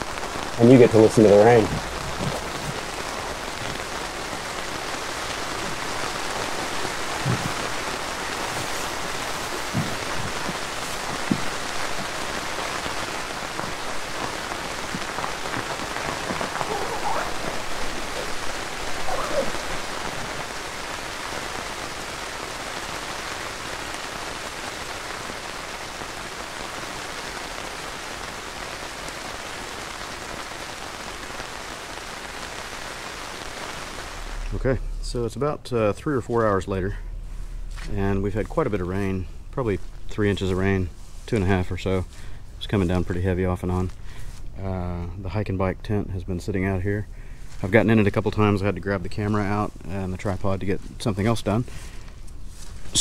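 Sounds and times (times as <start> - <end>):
heavy raindrops landing: 0.0 - 45.8, 46.4 - 53.0
rain on a tent: 0.0 - 53.0.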